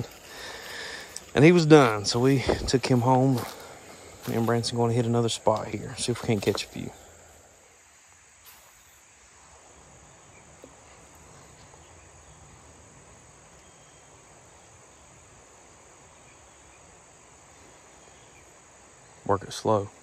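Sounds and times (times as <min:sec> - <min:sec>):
insect chorus: 0:00.0 - 0:20.0.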